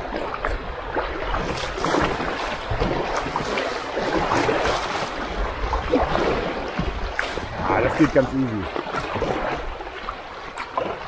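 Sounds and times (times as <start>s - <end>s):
rushing splashing river water: 0.0s - 11.0s.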